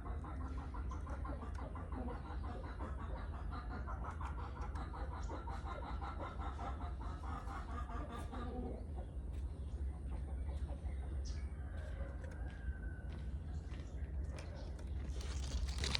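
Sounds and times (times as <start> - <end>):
constant low hum: 0.0 - 15.9.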